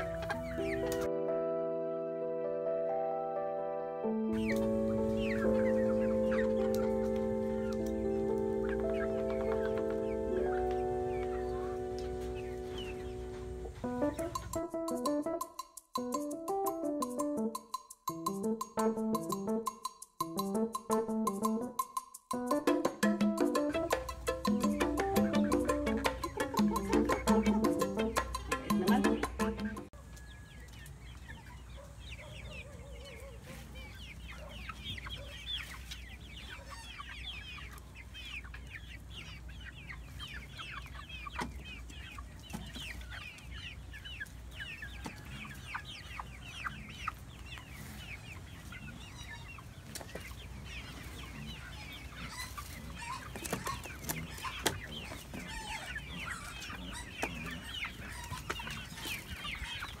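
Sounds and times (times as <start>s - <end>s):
hens clucking and chirping: 0.0s - 1.2s, 4.0s - 60.0s.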